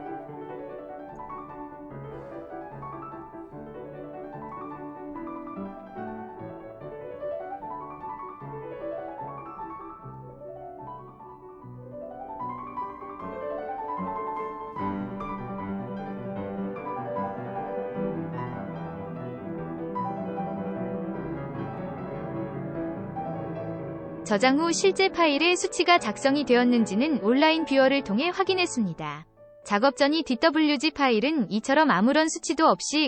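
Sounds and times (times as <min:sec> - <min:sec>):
piano music rising runs: 0:00.0 - 0:28.9.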